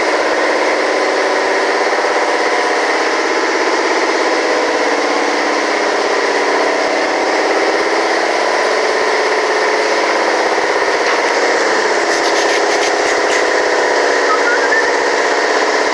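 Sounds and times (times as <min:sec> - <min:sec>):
engine droning hum: 0:00.0 - 0:15.9.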